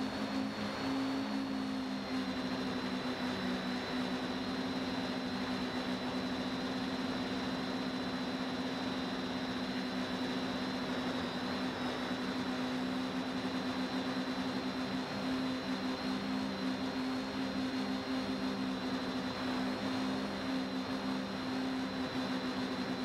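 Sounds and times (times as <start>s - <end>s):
drone motors humming: 0.0s - 23.0s.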